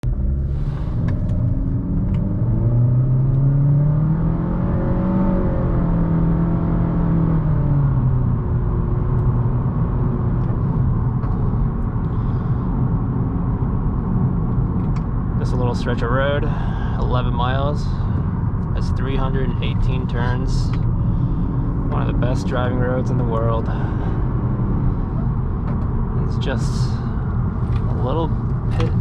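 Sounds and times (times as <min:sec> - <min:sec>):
car engine accelerating: 0:00.0 - 0:29.0
road and tyre rumble: 0:00.0 - 0:29.0.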